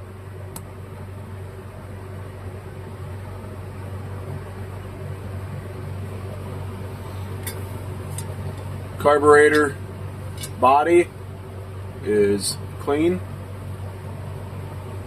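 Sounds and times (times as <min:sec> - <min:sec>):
machine hum with hiss: 0:00.0 - 0:15.0.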